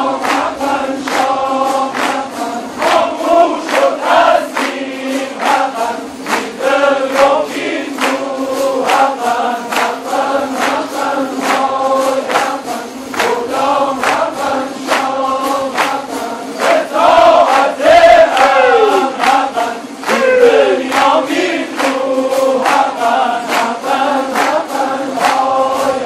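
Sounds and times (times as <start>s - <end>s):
lutes strummed together: 0.0s - 26.0s
voices chanting in chorus: 0.0s - 26.0s.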